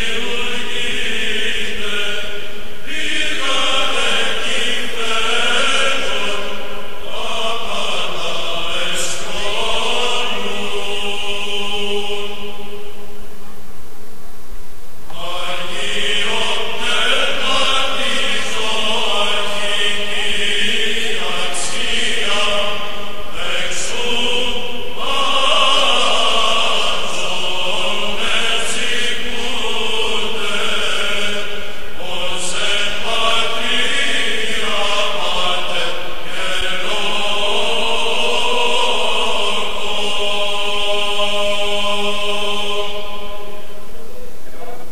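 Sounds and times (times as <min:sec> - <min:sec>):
person chanting slowly: 0:00.0 - 0:13.7, 0:15.1 - 0:44.9.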